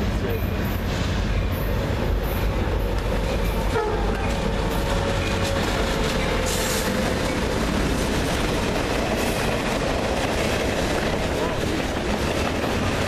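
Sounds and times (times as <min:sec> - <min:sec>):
freight train passing: 0:00.0 - 0:13.0.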